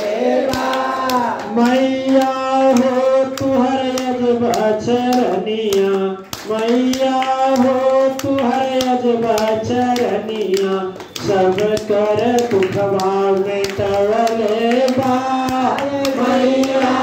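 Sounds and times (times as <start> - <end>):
sharp rhythmic claps: 0.0 - 17.0
man singing into a microphone: 1.2 - 17.0.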